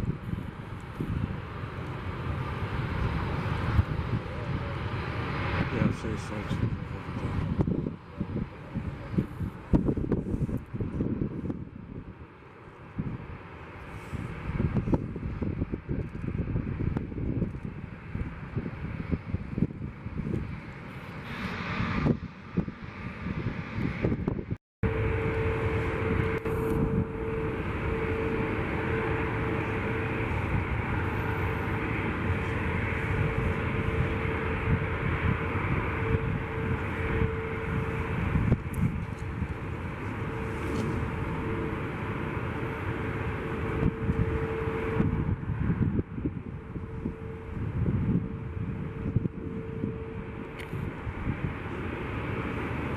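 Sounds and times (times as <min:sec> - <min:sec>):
jet engines rumbling: 0:00.0 - 0:52.9
steady engine whine: 0:00.0 - 0:52.9
wind buffeting microphone: 0:00.0 - 0:52.9.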